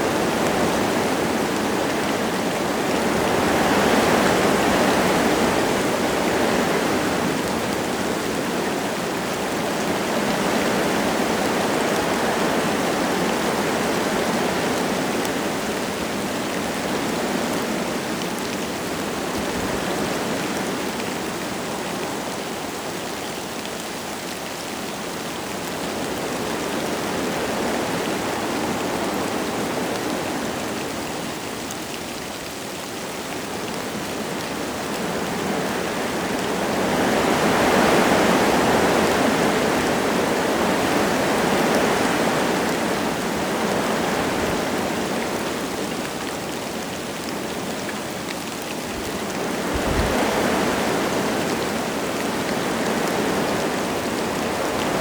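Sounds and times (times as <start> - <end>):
light rain falling: 0.0 - 55.0
wind gusting through trees: 0.0 - 55.0.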